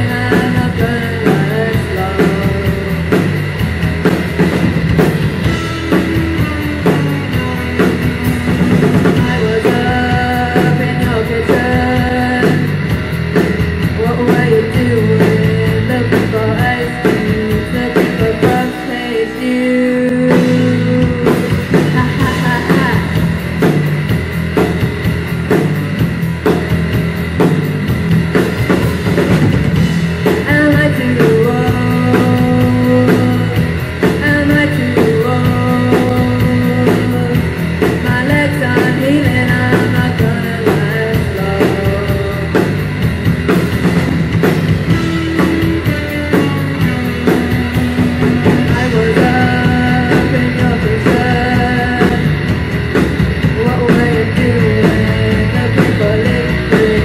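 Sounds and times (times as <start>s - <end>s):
woman singing: 0.0s - 3.8s, 5.4s - 23.7s, 30.2s - 43.0s, 44.8s - 57.0s
drum kit steady rhythm: 0.0s - 57.0s
electric guitars: 0.0s - 57.0s.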